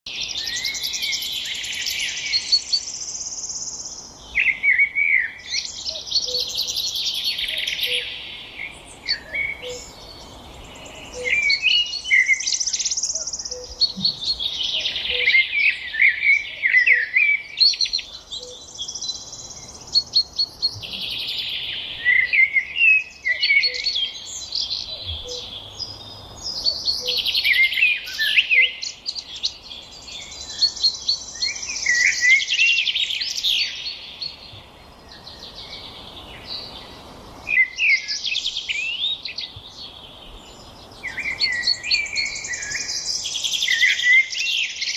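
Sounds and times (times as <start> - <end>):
small birds chirping: 0.1 - 44.9.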